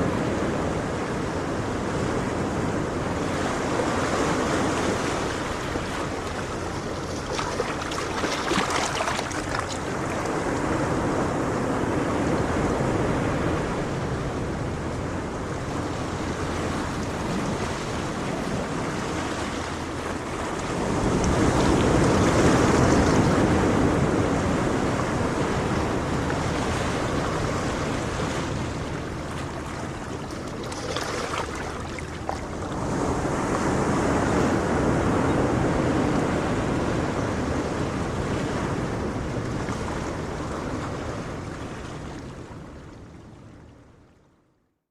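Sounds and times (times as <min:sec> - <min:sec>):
wind on microphone: 0:00.0 - 0:43.5
ocean waves breaking: 0:00.0 - 0:44.0.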